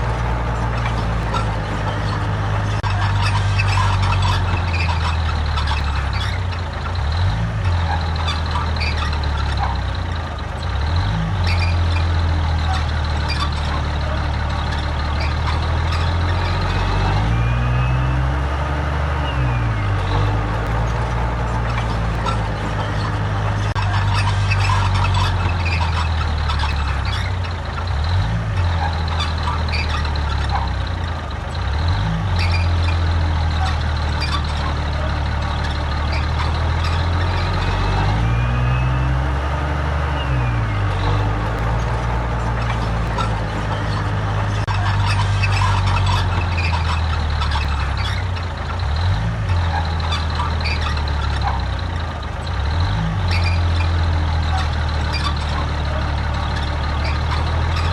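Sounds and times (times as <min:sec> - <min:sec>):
rattling and clanking: 0:00.0 - 0:17.4, 0:19.8 - 0:38.3, 0:40.7 - 0:57.9
heavy machinery engine: 0:00.0 - 0:57.9.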